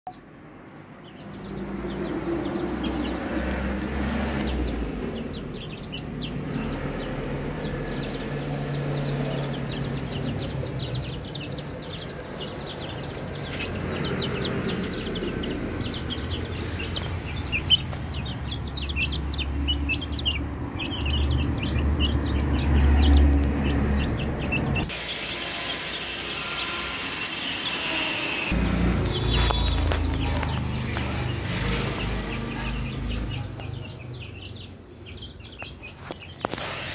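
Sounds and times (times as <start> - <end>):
chicks peeping: 0.1 - 36.9.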